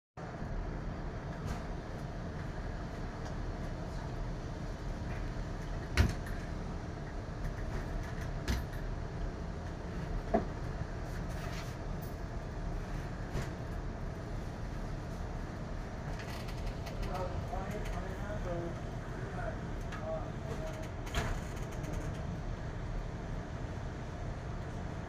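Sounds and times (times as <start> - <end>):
low background rumble: 0.2 - 25.0.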